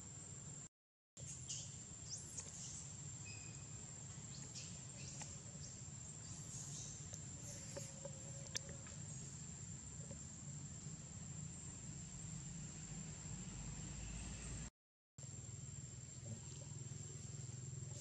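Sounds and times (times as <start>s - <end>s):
high insect drone: 1.2s - 14.6s, 15.2s - 18.0s.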